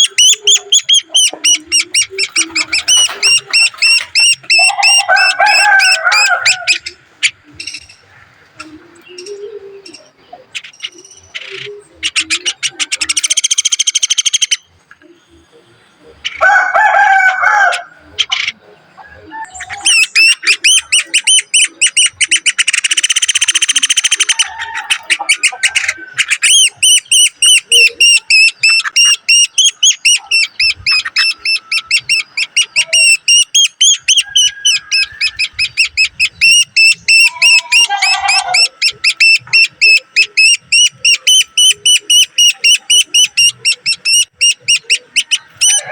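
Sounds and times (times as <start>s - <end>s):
low harsh bird call: 0.0s - 45.9s
woodpecker chicks begging calls: 0.0s - 45.9s.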